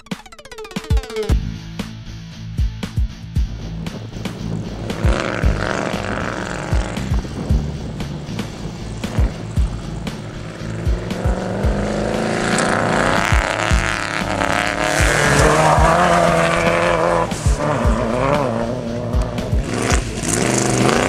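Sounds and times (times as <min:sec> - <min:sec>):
music beat with low thumps: 0:00.0 - 0:21.0
truck engine revving: 0:03.6 - 0:21.0.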